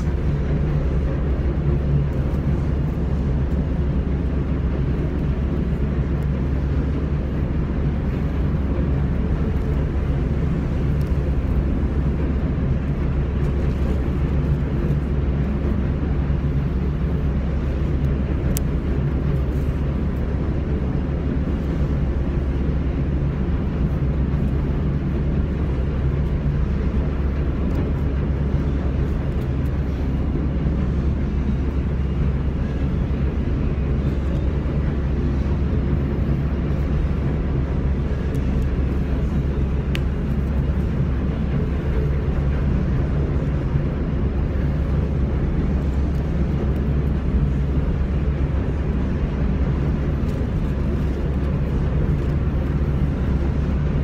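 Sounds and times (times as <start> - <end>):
low mechanical drone: 0.0 - 54.0.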